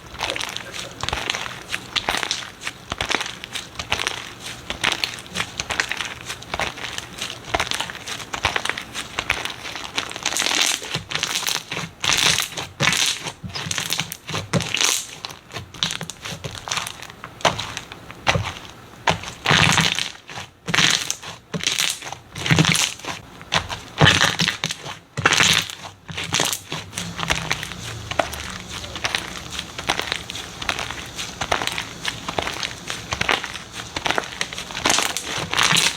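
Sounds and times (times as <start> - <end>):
slime squeezed crunchy crackling: 0.0 - 18.6, 19.2 - 35.9.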